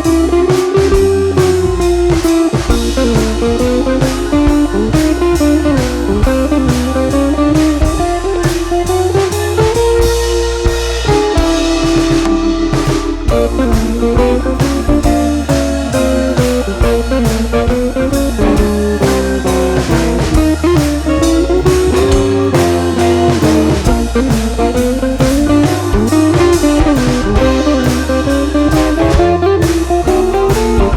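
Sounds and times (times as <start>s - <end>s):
blues guitar melody: 0.0s - 30.9s
drum beat: 0.0s - 30.9s.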